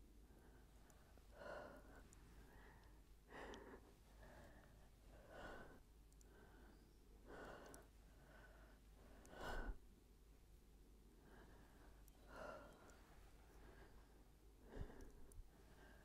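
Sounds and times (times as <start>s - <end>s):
woman breathing with effort: 0.2s - 9.9s, 11.1s - 16.0s.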